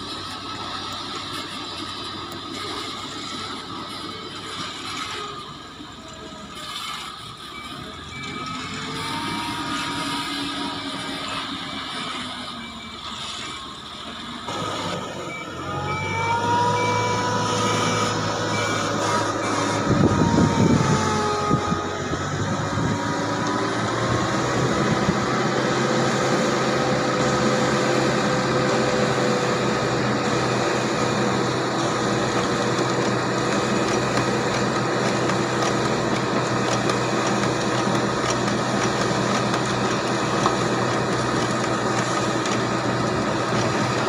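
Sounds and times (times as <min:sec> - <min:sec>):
diesel engine running: 0:00.0 - 0:44.0
hydraulic whine: 0:00.0 - 0:44.0.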